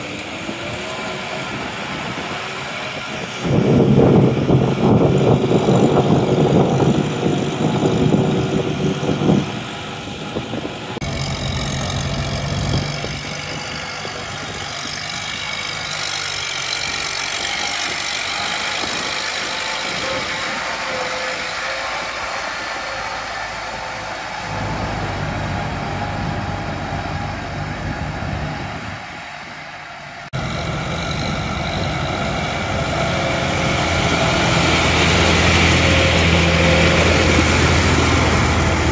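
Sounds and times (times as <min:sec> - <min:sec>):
diesel tractor engines running: 0:00.0 - 0:38.9.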